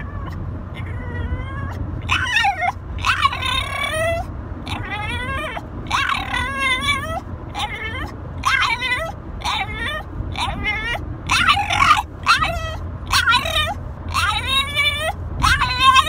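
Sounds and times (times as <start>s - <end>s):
dog whining and yowling: 0.0s - 16.0s.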